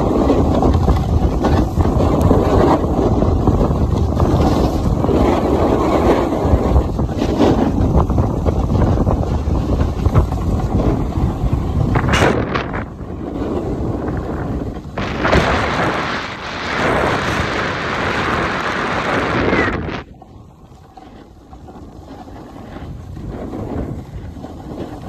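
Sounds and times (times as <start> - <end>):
ski edges scraping packed snow: 0.0 - 25.0
wind buffeting microphone: 0.0 - 25.0.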